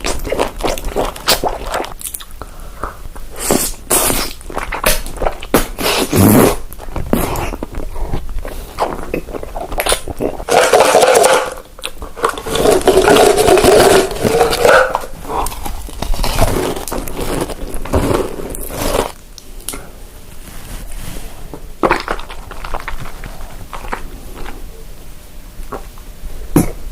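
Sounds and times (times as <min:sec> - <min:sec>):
chewing and crunching food: 0:00.0 - 0:19.8, 0:21.8 - 0:24.7.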